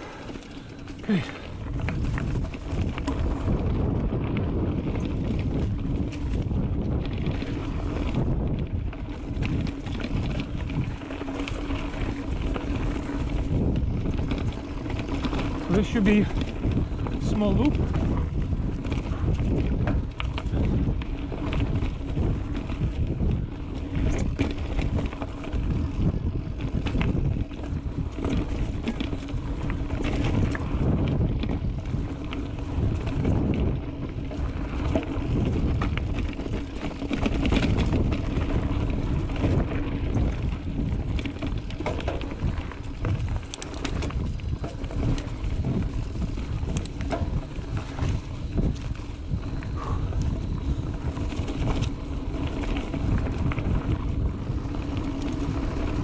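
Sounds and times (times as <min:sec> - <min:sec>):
bike clicks and rattles: 0:00.0 - 0:56.0
tyres rolling on dirt: 0:00.0 - 0:56.0
wind noise on microphone: 0:00.0 - 0:56.0.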